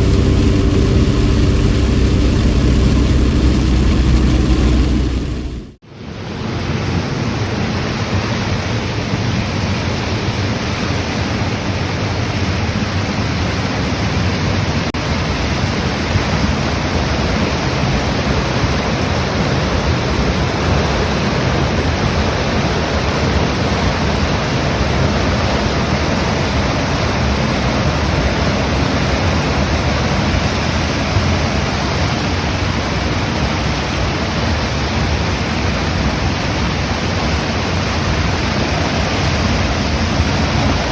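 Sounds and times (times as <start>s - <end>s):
river rushing in flood: 5.9s - 40.9s.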